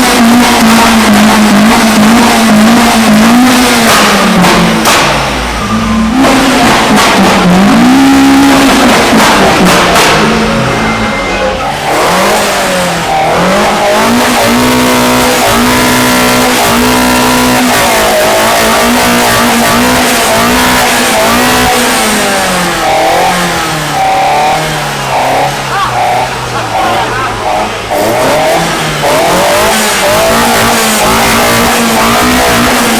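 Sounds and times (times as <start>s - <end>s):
car engine revving hard: 0.0s - 32.9s.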